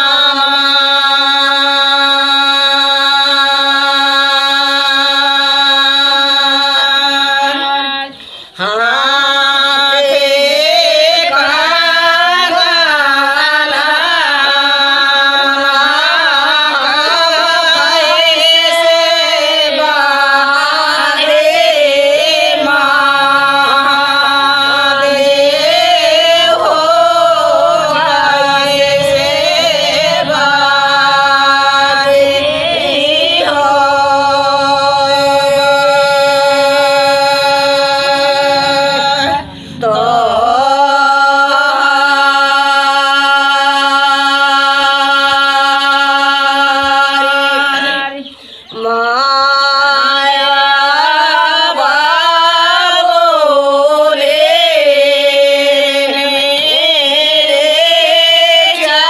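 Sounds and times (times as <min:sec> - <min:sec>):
held drone note: 0:00.0 - 0:48.2
women singing folk song: 0:00.0 - 0:59.0.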